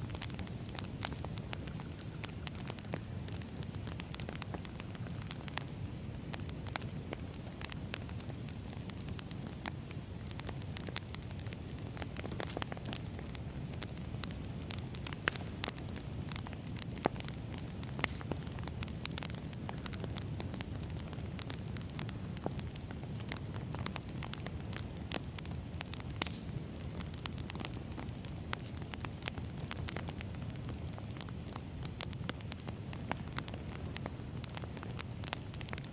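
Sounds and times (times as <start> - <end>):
burning logs popping: 0.0 - 35.9
fire crackling: 0.0 - 35.9
flames rumbling: 0.0 - 35.9.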